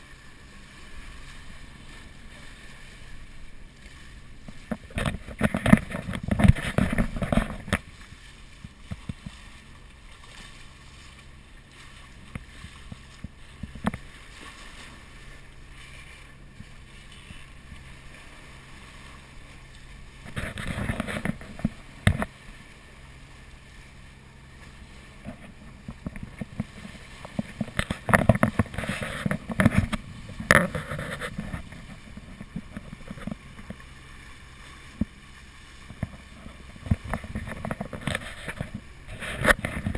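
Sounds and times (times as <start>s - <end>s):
low steady hum: 0.0s - 39.9s
water rushing along hull: 0.0s - 39.9s.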